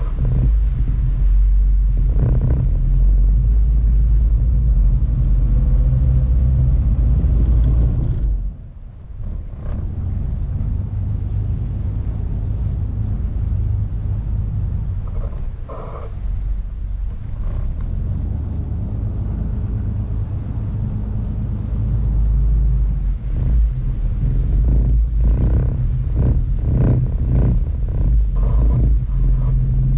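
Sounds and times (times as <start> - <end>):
boat engine rumbling: 0.0 - 29.9.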